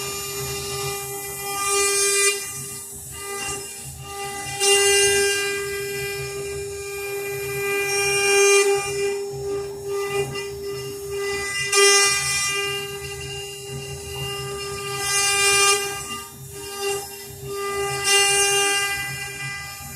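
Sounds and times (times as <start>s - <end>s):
router spindle whine: 0.0s - 19.9s.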